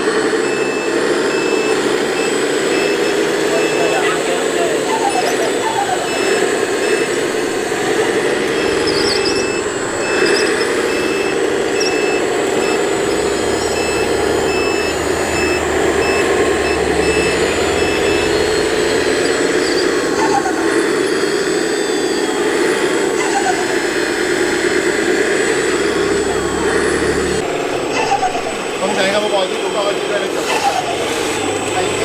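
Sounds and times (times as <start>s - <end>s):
electric motors whining: 0.0s - 32.0s
electronic reversing beeps: 0.0s - 32.0s.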